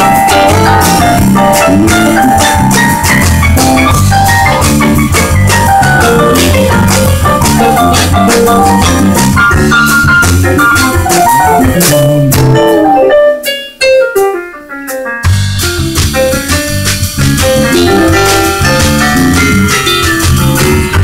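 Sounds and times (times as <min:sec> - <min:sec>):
low bass line: 0:00.0 - 0:13.1, 0:15.2 - 0:21.0
drum kit and cymbals: 0:00.0 - 0:21.0
keyboard chords and runs: 0:00.0 - 0:21.0.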